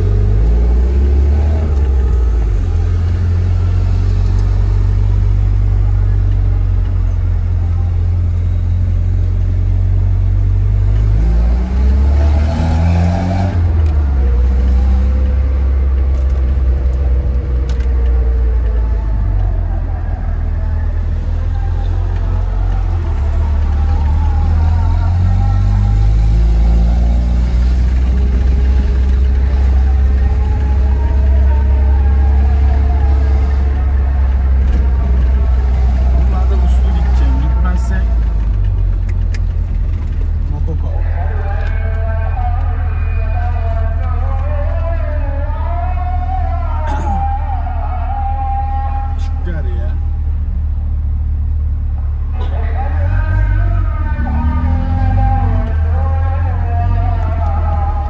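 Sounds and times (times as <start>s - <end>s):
deep car exhaust drone: 0.0s - 58.0s.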